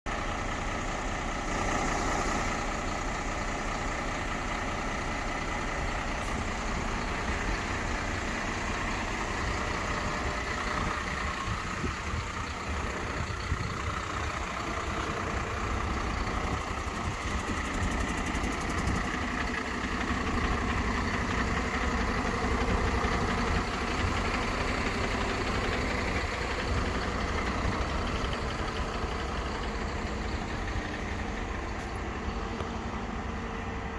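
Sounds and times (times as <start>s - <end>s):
truck diesel engine idling: 0.1s - 33.9s.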